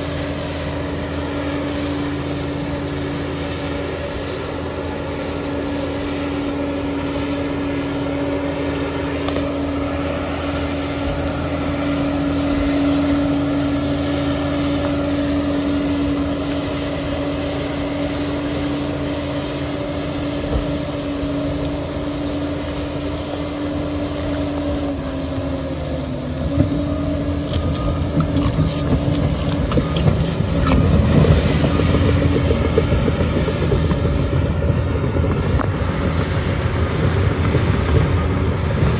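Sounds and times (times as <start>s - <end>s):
diesel engine whine and rumble: 0.0s - 38.9s.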